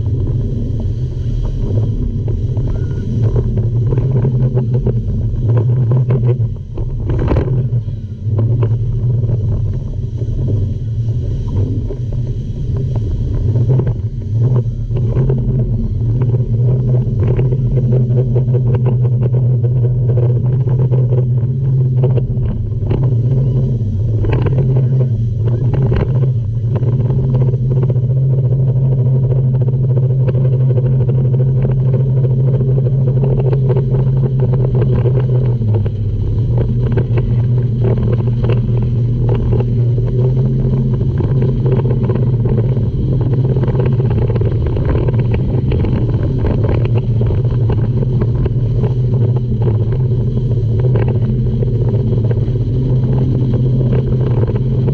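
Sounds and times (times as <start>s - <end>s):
outboard motors running: 0.0s - 54.9s
water rushing along hull: 0.0s - 54.9s.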